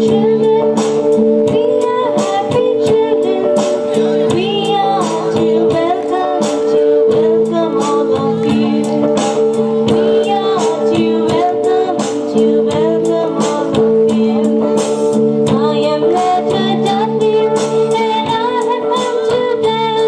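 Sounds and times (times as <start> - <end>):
instrumental backing with beat: 0.0 - 20.0
song with singing voices: 0.0 - 20.0.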